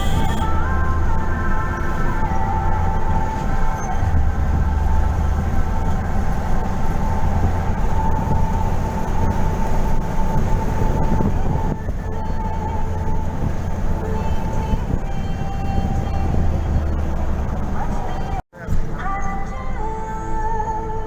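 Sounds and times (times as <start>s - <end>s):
steady high tone: 0.0s - 17.3s
road vehicle rumble: 0.0s - 21.0s.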